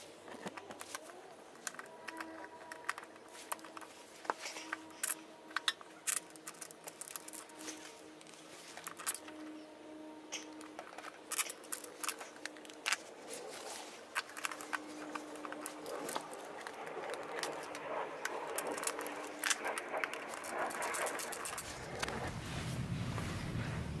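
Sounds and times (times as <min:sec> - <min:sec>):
rustling: 0:00.0 - 0:24.0
hand tool clicking and scraping: 0:00.2 - 0:22.3.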